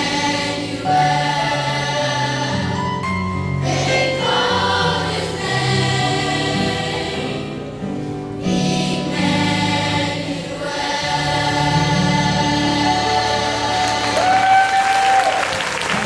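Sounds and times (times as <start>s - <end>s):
youth choir singing gospel: 0.0s - 15.5s.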